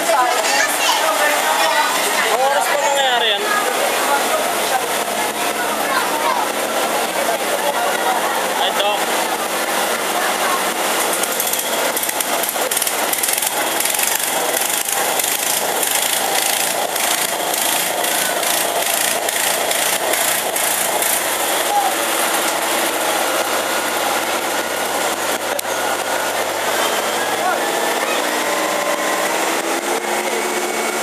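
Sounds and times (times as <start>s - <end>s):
crowd voices: 0.0s - 31.0s
fire engine motors: 0.0s - 31.0s
spraying water: 0.2s - 31.0s.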